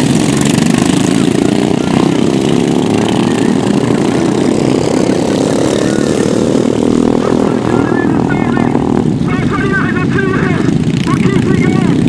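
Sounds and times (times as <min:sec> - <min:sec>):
lawn mower engines running: 0:00.0 - 0:12.0.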